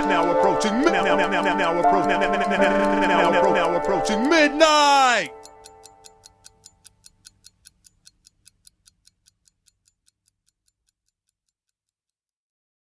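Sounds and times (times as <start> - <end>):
faint clock ticking: 0.0 - 12.2.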